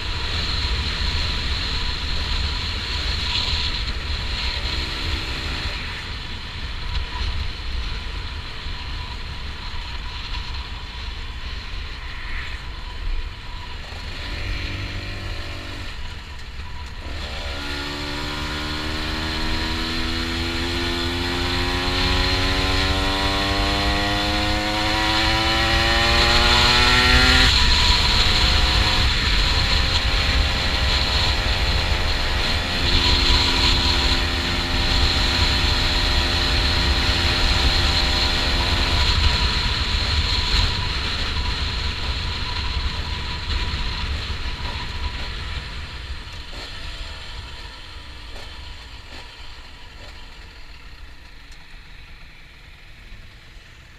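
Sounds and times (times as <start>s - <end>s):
motorcycle engine revving: 0.0s - 7.8s, 9.0s - 53.9s
wind rush on camera: 0.0s - 53.9s.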